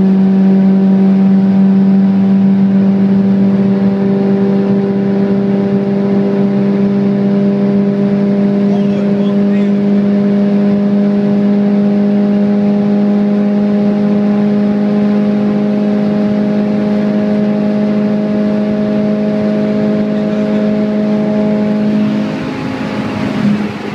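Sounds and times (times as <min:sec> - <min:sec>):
car engine at high revs: 0:00.0 - 0:23.9.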